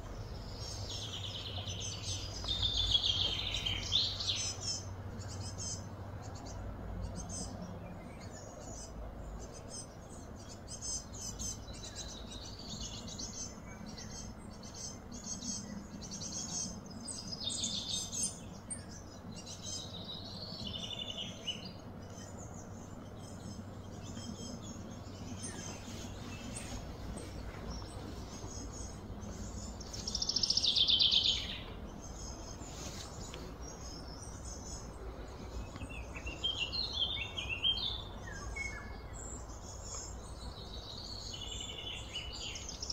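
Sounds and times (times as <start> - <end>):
birds chirping and calling: 0.0 - 42.9
steady low hum: 0.0 - 42.9.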